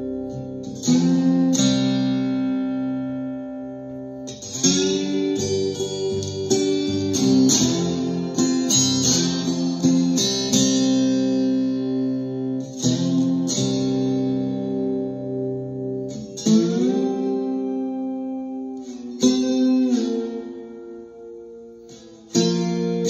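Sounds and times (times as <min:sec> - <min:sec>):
slide guitar chords ringing: 0:00.0 - 0:23.0.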